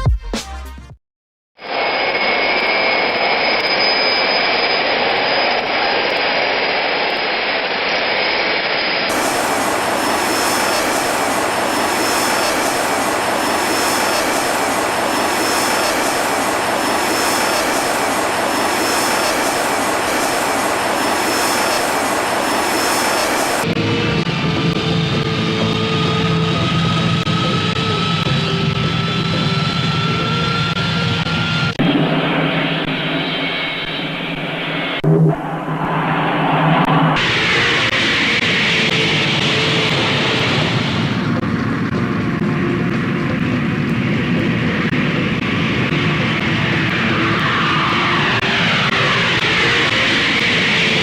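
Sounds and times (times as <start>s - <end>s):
high-pitched jet whine: 1.6s - 51.0s
jet engines rushing: 1.6s - 51.0s.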